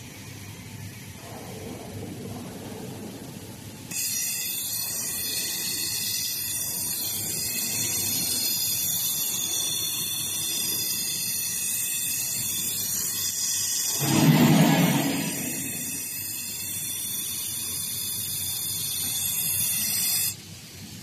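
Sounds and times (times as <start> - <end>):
laser welding machine hiss: 3.9 - 21.0.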